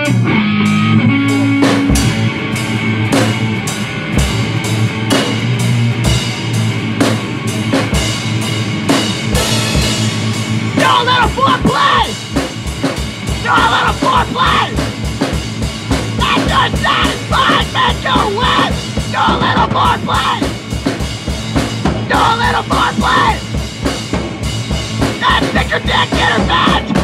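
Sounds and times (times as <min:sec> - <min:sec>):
drum kit beat: 0:00.0 - 0:27.0
electric guitar chords: 0:00.0 - 0:27.0.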